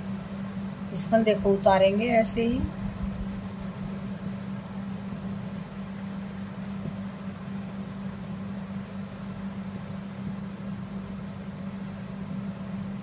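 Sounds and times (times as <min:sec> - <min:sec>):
electric machine hum: 0:00.0 - 0:13.0.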